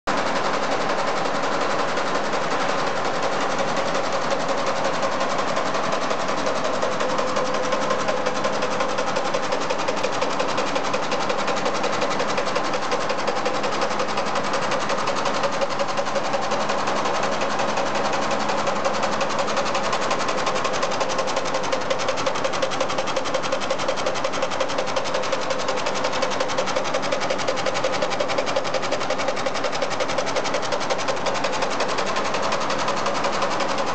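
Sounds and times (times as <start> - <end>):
embroidery machine needle clatter: 0.2 - 33.9.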